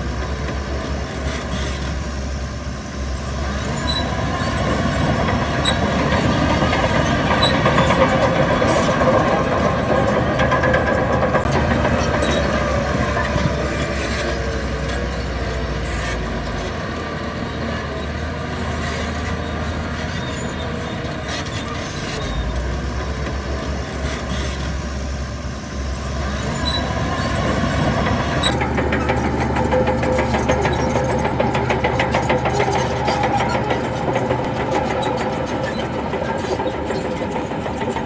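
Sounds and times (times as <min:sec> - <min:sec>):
heavy machinery diesel engines: 0:00.0 - 0:38.0
fast even engine clatter: 0:03.2 - 0:25.0, 0:25.9 - 0:38.0.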